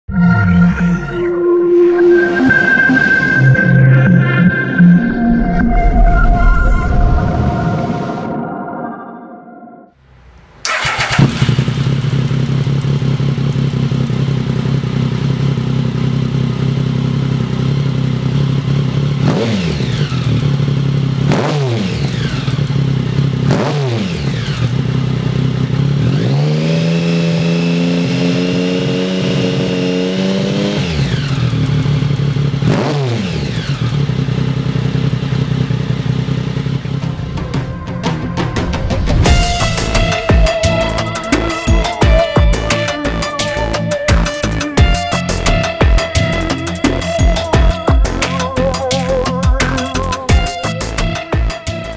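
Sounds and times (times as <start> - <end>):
motorcycle engine idling and revving: 10.0 - 51.9.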